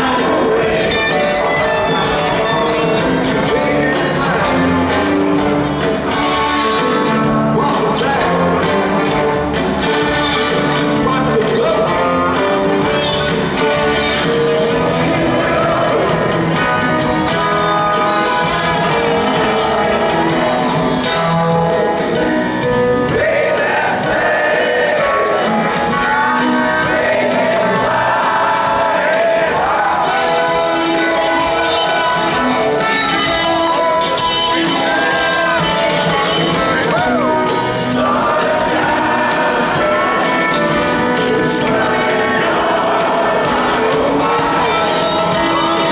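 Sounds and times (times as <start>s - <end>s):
lead vocal singing: 0.0s - 45.9s
live rock band playing: 0.0s - 45.9s.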